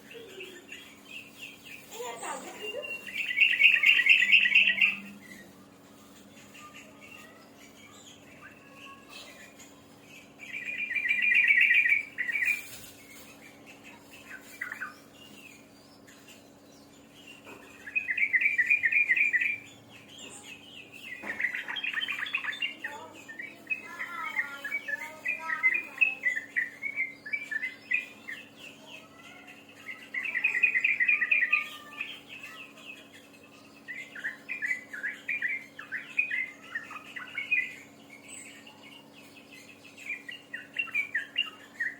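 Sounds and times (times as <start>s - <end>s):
songbird trilling and chattering: 0.0s - 41.9s.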